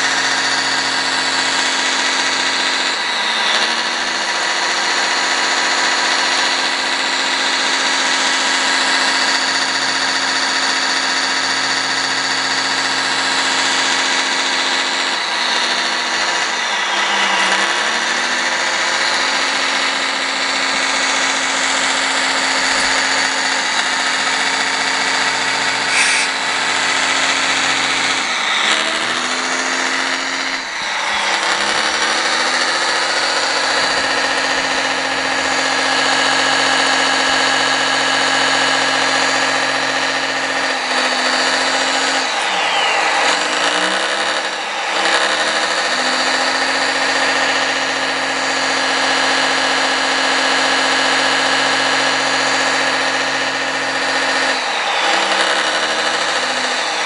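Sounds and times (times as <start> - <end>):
model excavator motor whine: 0.0 - 57.0.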